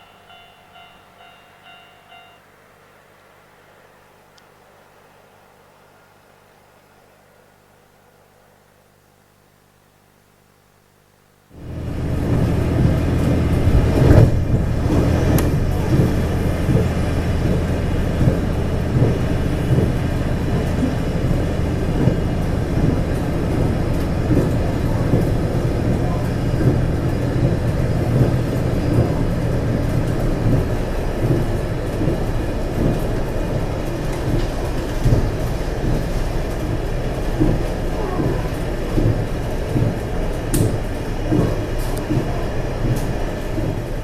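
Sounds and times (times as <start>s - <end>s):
train engine drone: 0.0s - 8.6s, 11.3s - 44.0s.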